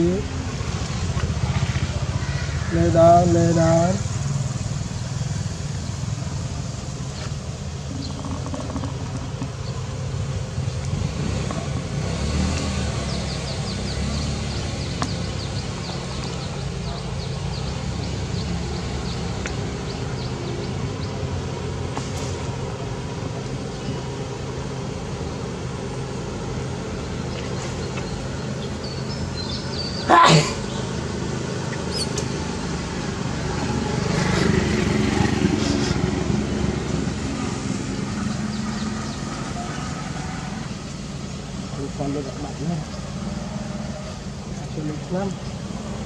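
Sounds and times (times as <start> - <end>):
road traffic rumble: 0.0 - 46.0
vehicle passing: 0.0 - 46.0.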